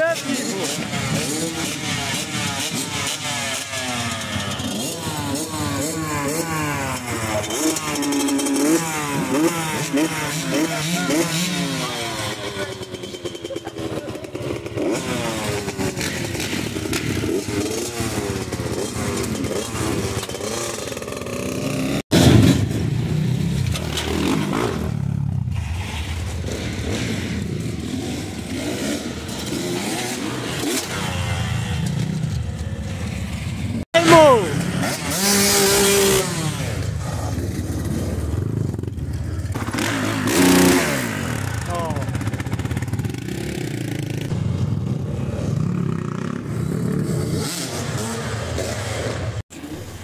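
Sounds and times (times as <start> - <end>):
bikes idling: 0.0 - 22.0, 26.2 - 47.1
motocross bike engines revving: 0.0 - 50.0.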